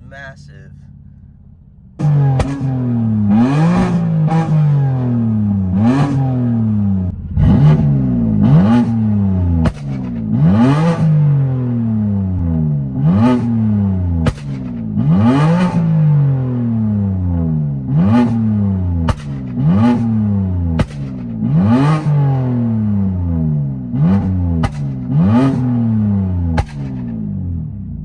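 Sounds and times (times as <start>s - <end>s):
car engine revving: 0.0s - 28.0s
exhaust crackle and bangs: 0.9s - 28.0s.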